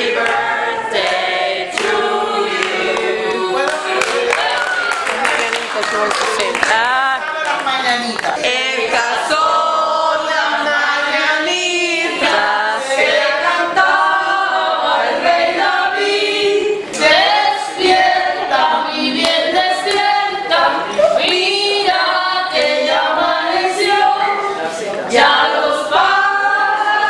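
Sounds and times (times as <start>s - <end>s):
group singing unaccompanied: 0.0s - 5.4s, 8.3s - 27.0s.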